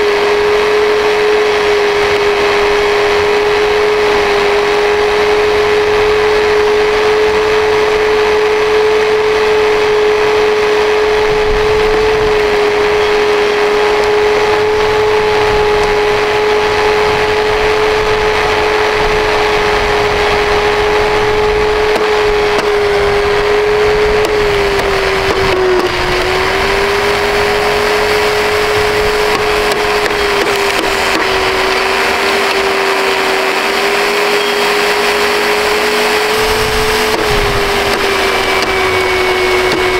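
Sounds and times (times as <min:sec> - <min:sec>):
vacuum cleaner motor whining: 0:00.0 - 0:39.9.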